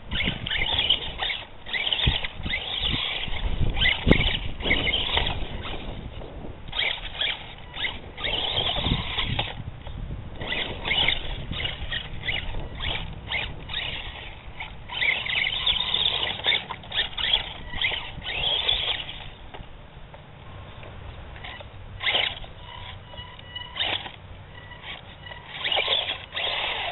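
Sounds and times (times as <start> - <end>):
toy truck motor whining: 0.1 - 19.6, 20.8 - 26.9.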